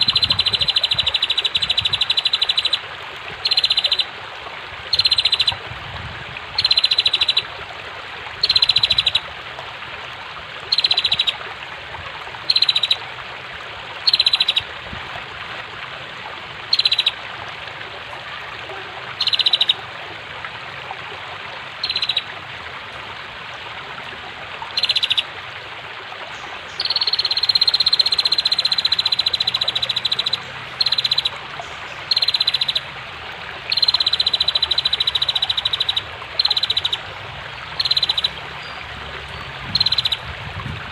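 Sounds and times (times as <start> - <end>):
fast-flowing water rushing: 0.0 - 40.9.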